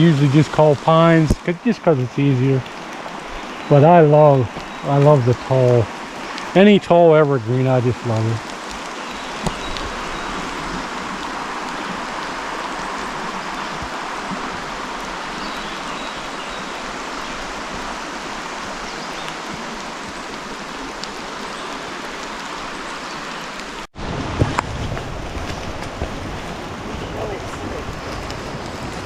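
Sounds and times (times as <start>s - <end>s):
creek water flowing: 0.0s - 29.0s.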